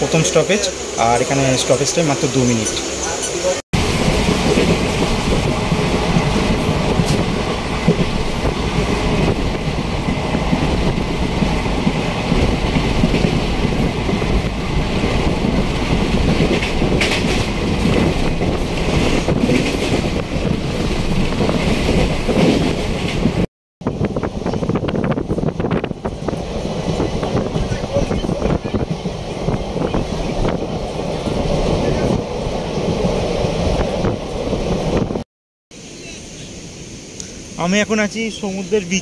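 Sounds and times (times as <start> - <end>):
train running inside coach: 0.0 - 35.2.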